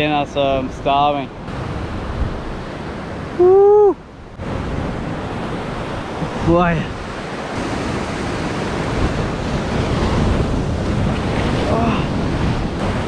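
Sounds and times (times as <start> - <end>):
ocean surf breaking on rocks: 0.0 - 13.0.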